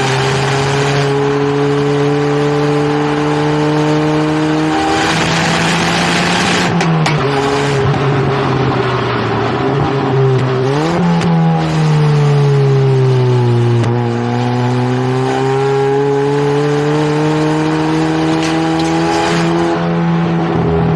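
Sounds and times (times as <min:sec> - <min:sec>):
car engine and exhaust revving: 0:00.0 - 0:20.9.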